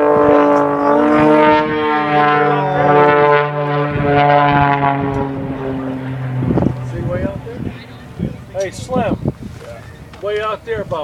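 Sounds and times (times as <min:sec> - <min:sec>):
plane engine and propeller droning: 0:00.0 - 0:11.0.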